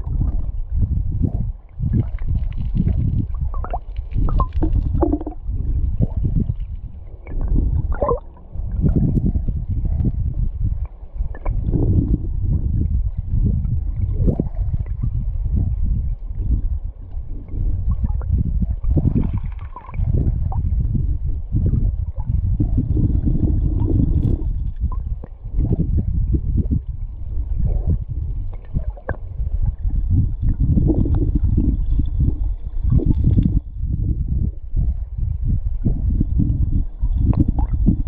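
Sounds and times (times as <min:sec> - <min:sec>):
muffled underwater river rushing: 0:00.0 - 0:38.0.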